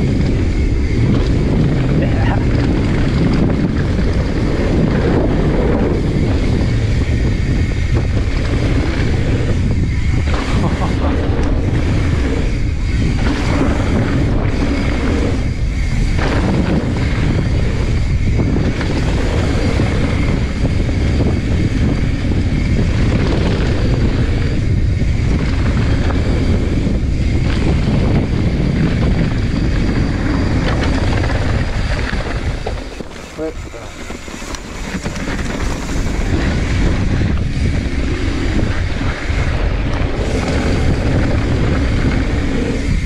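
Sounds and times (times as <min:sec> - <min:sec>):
bike rattling: 0:00.0 - 0:43.0
bike tyres rolling: 0:00.0 - 0:43.0
wind rushing on microphone: 0:00.0 - 0:43.0.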